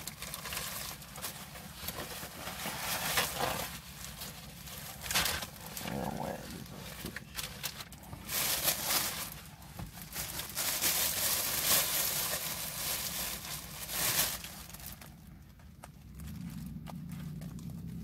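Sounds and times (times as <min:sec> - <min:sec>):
food wrapper crinkling: 0:00.0 - 0:18.0
low steady hum: 0:00.0 - 0:18.0.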